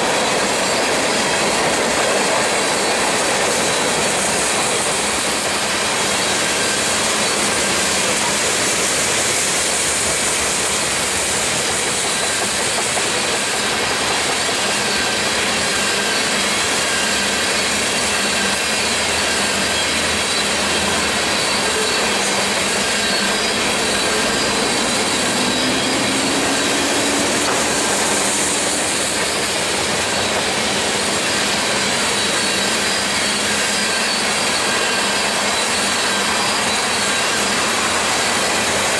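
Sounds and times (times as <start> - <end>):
train wheels roaring on rails: 0.0 - 38.9.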